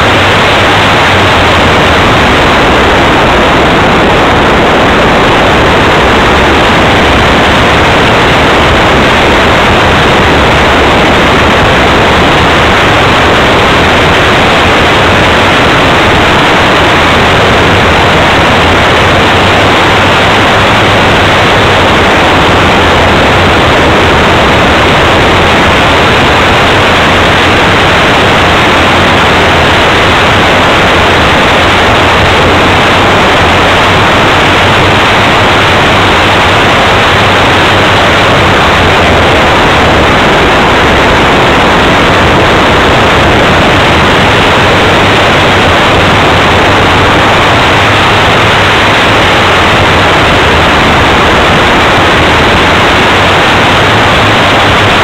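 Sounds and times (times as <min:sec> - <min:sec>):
model plane propeller and air rush: 0:00.0 - 0:55.0.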